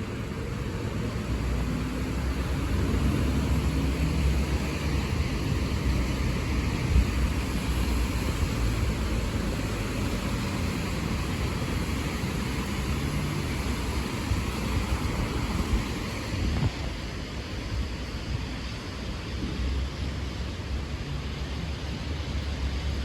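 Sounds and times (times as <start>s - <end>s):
traffic hiss: 0.0s - 23.0s.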